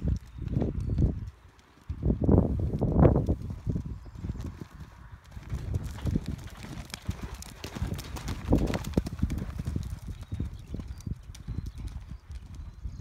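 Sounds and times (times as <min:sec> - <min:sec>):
horse hooves thudding on sand: 0:00.0 - 0:12.8.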